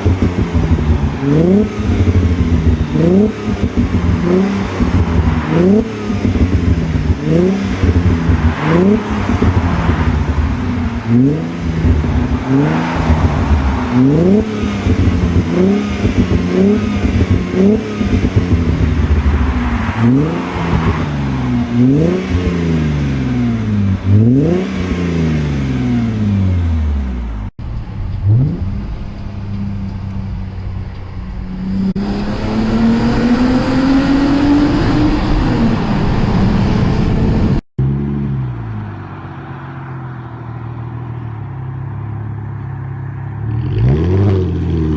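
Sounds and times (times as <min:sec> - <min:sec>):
car engine idling: 0:00.0 - 0:37.6, 0:38.5 - 0:43.5
car engine revving: 0:00.0 - 0:42.4, 0:43.4 - 0:44.9.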